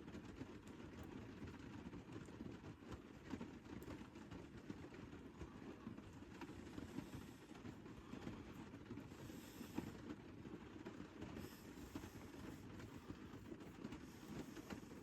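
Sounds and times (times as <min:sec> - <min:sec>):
light rain tapping on roof: 0:00.0 - 0:15.0.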